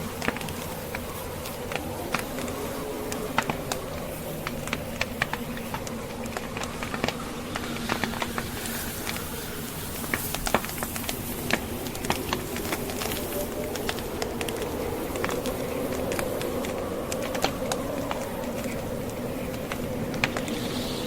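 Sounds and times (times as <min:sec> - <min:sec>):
hissing wind: 0:00.0 - 0:21.0
wood fire crackling: 0:00.0 - 0:21.0.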